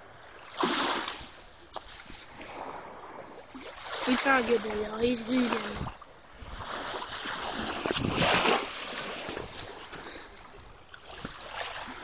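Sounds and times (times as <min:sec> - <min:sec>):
water splashing and lapping: 0:00.0 - 0:12.0.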